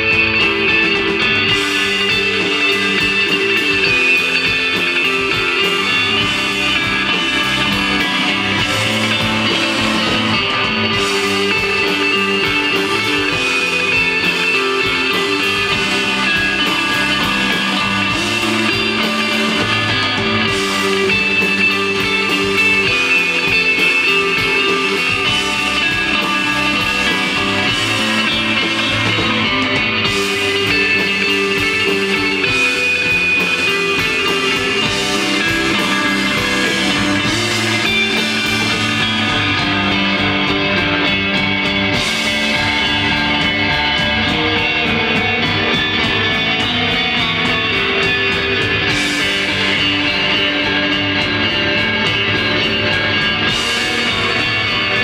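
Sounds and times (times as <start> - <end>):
drum kit: 0.0 - 55.0
electric bass: 0.0 - 55.0
electric guitar: 0.0 - 55.0.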